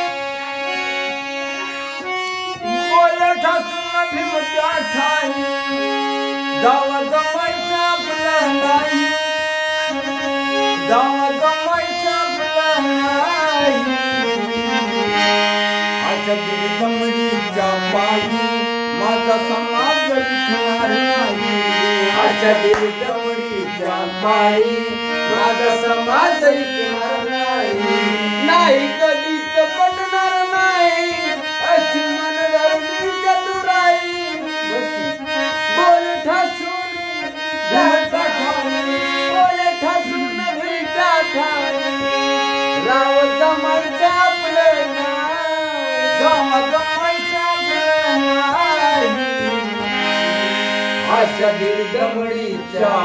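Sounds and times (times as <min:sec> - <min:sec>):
harmonium melody: 0:00.0 - 0:53.0.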